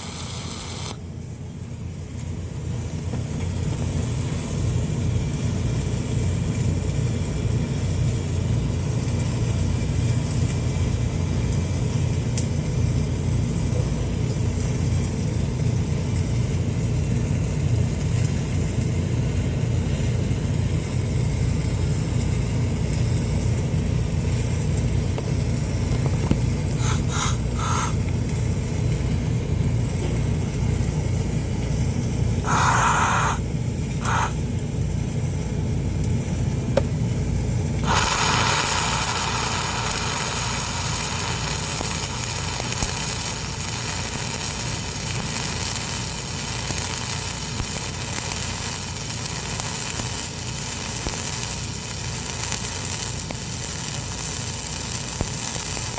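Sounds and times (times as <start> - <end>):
arc welding crackling sizzle: 0.0 - 55.9.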